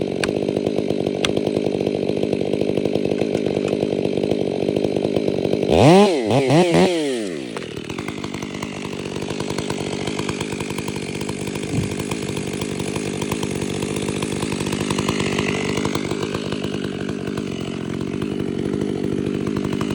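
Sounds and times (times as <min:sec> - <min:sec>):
chainsaw engine running: 0:00.0 - 0:19.9.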